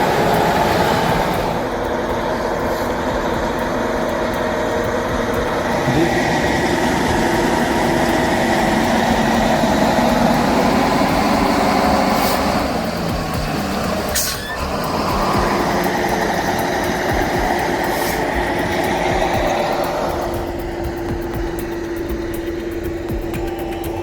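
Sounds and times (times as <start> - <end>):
heavy machine engine humming: 0.0 - 24.0.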